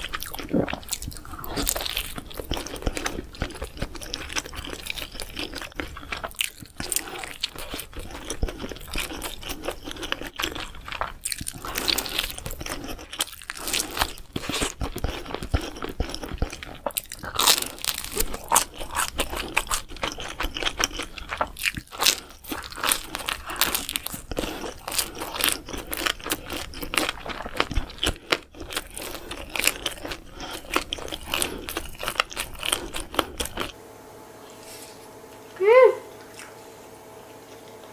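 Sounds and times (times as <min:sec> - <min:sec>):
crunching bites and chewing: 0:00.0 - 0:33.8.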